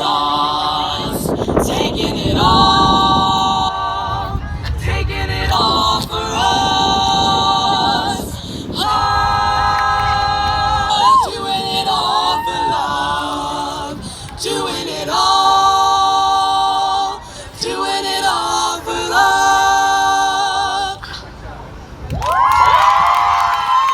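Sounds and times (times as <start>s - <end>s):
vocal ensemble singing chords: 0.0s - 22.0s.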